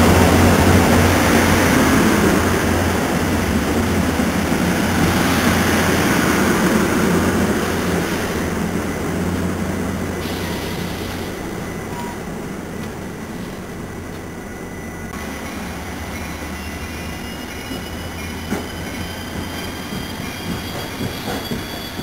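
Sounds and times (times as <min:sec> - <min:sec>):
train coaches rumbling on track: 0:00.0 - 0:22.0.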